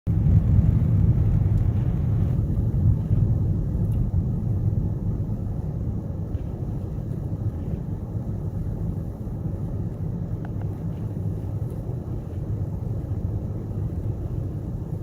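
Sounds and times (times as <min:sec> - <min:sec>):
car driving low rumble: 0:00.1 - 0:15.0.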